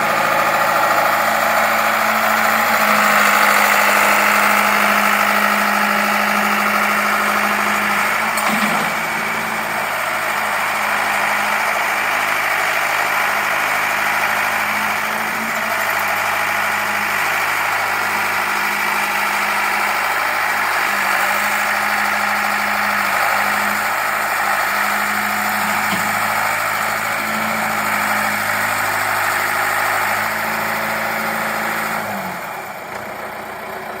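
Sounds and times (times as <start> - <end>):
backhoe engine idling: 0.0 - 34.0.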